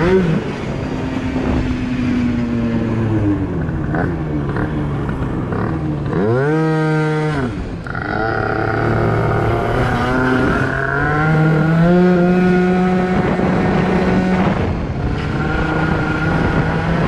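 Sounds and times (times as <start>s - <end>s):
scooter two-stroke engine revving: 2.7s - 17.0s.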